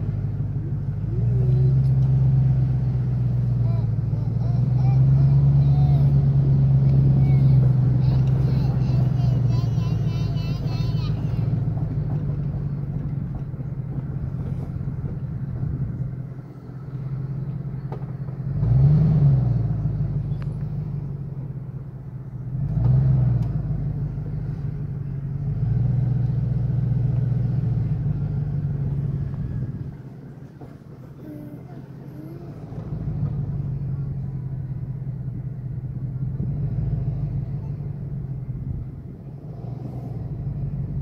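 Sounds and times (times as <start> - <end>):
car engine from inside cabin: 0.0 - 41.0.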